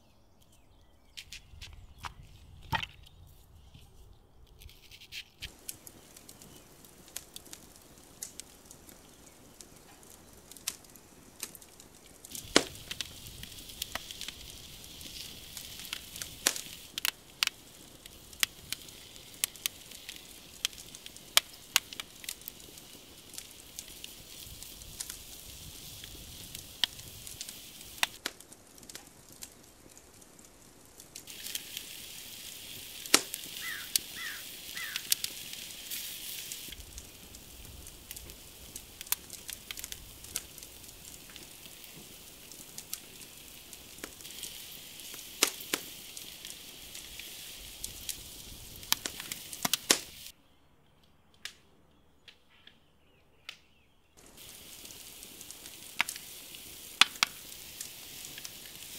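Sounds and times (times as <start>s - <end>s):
wood fire crackling: 0.4s - 50.4s, 54.2s - 58.9s
food sizzling on a grill: 5.5s - 50.3s, 54.2s - 58.9s.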